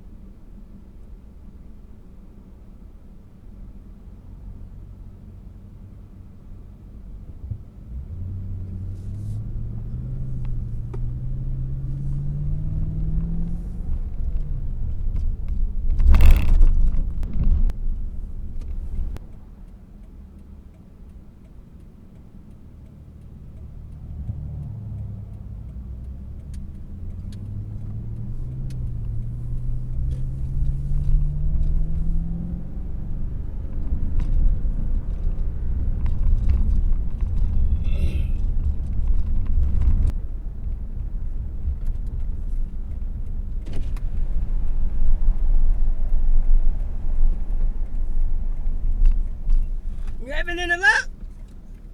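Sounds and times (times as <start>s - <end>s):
car engine accelerating: 0.0s - 51.9s
road rumble: 0.0s - 51.9s.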